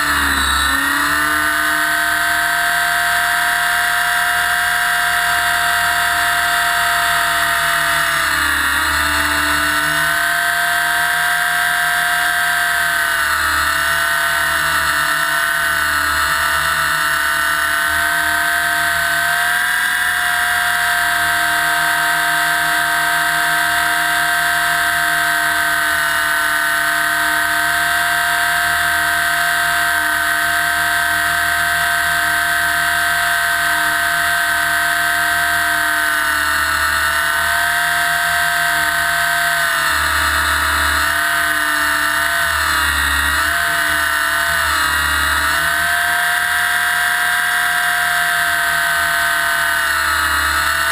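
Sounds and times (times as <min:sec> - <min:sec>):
rc helicopter motor whine: 0:00.0 - 0:50.9.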